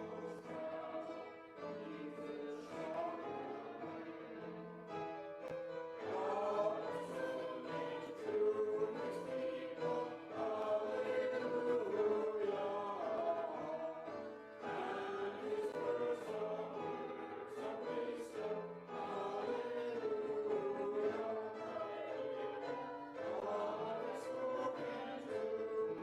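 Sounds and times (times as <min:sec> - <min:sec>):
choir singing a hymn: 0:00.0 - 0:26.0.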